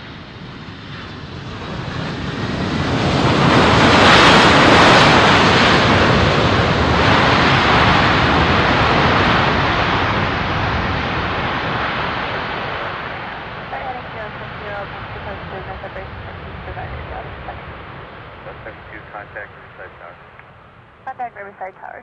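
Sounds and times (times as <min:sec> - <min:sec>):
jet airliner engine roar: 0:00.0 - 0:22.0.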